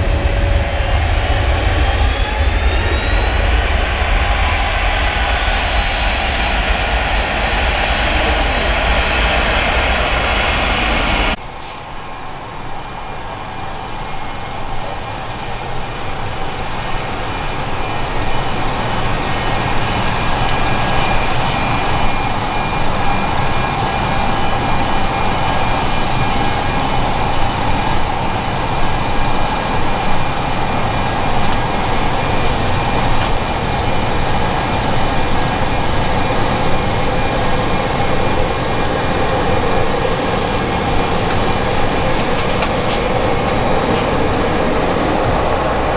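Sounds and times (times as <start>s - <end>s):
high fan whine: 0.0s - 45.9s
jet engine noise: 0.0s - 45.9s
jet engine rumble: 0.0s - 45.9s.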